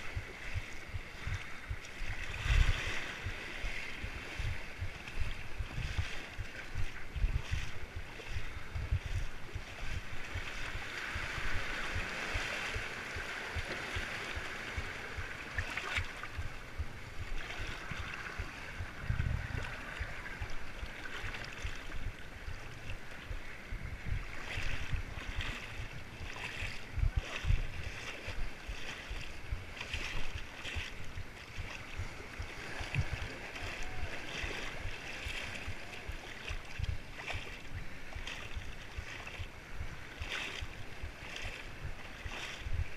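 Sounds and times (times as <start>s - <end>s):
small waves lapping: 0.0s - 42.9s
wind buffeting microphone: 0.0s - 42.9s.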